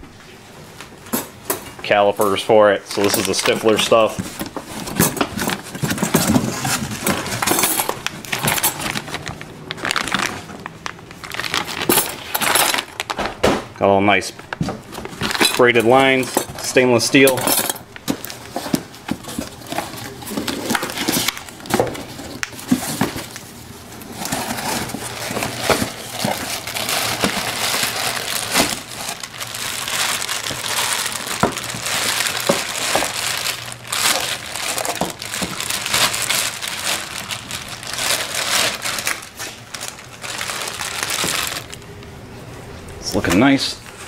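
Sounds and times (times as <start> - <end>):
plastic bag crinkling: 2.8 - 13.4, 14.4 - 42.0.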